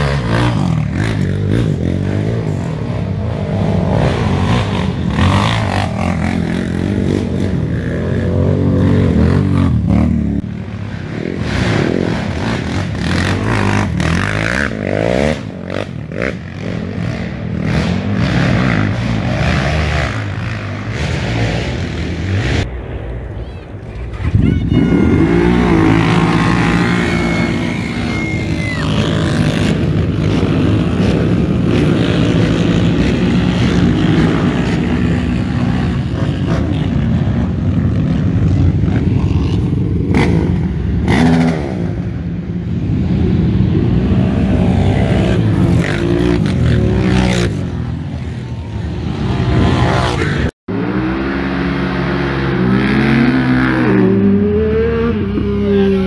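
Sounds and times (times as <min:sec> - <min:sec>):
quad engines revving: 0:00.0 - 0:22.7, 0:24.3 - 0:42.3, 0:43.1 - 0:56.0.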